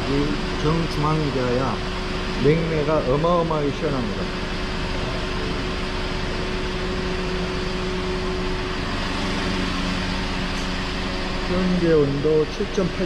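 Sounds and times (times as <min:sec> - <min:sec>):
air conditioning blower noise: 0:00.0 - 0:13.0
car engine idling: 0:00.0 - 0:13.0.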